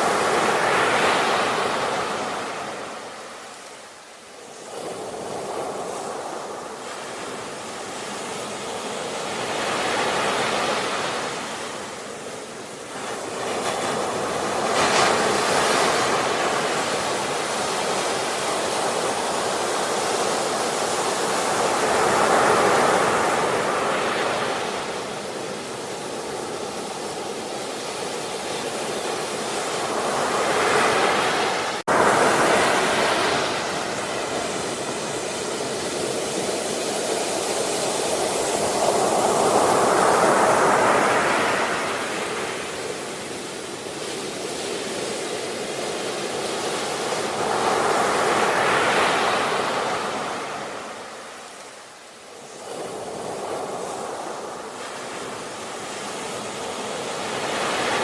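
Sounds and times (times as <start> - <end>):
ocean waves breaking: 0.0 - 3.7, 4.6 - 58.0.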